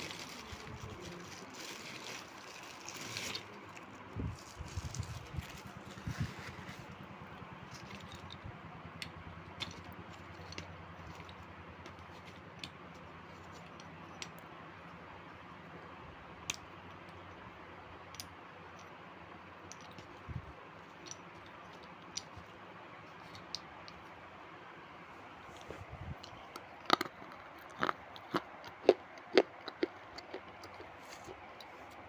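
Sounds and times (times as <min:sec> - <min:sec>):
low steady hiss: 0:00.0 - 0:29.3.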